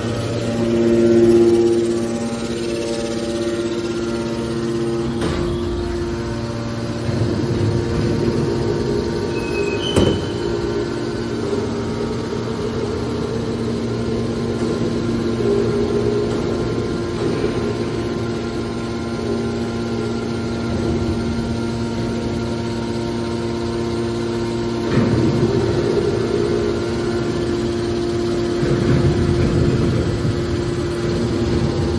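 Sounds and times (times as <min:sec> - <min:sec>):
baler motor humming: 0:00.0 - 0:31.9.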